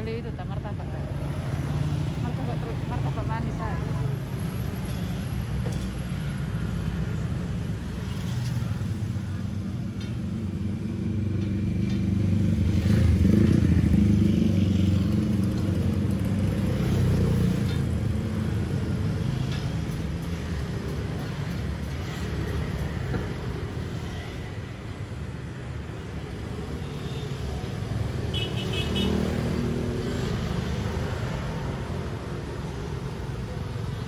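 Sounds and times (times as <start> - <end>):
motorbikes and cars passing: 0.0 - 34.0.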